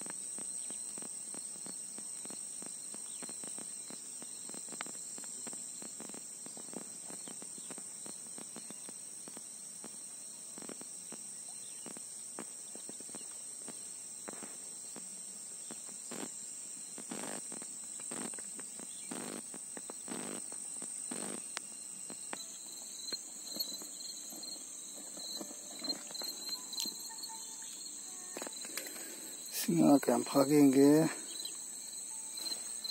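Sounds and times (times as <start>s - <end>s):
high-pitched insect chorus: 0.0s - 32.9s
pulsing insect chirp: 0.0s - 32.9s.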